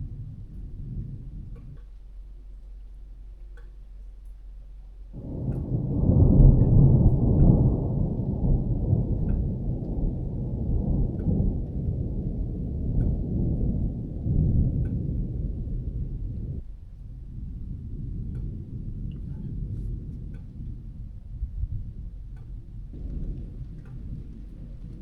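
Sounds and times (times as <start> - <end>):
thunder rumbling: 0.0 - 3.4, 4.6 - 25.0.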